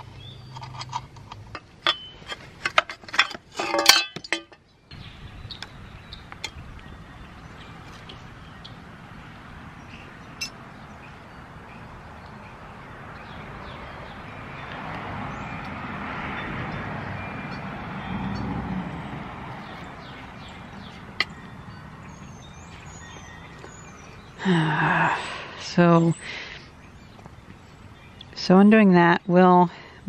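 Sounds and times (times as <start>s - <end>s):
outdoor background noise: 0.0s - 30.0s
broad rush of noise: 4.3s - 28.5s.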